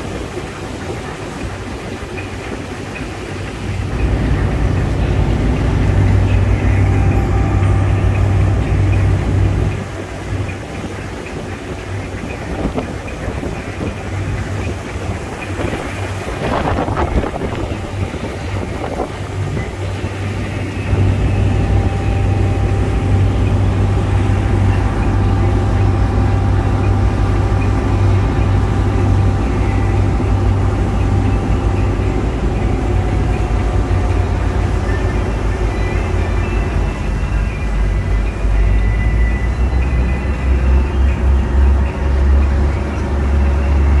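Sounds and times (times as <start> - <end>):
motorboat engine humming: 0.0 - 44.0
rush of churning wake: 0.0 - 44.0.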